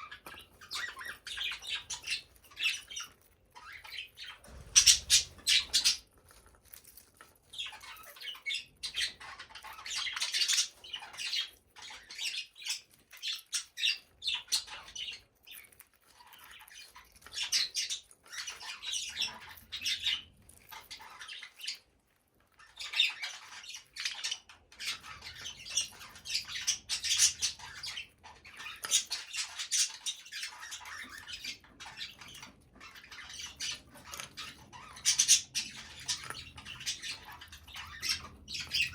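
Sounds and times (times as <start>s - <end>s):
budgerigars chattering and squawking: 0.0s - 6.1s, 7.5s - 15.6s, 16.2s - 21.9s, 22.6s - 38.9s.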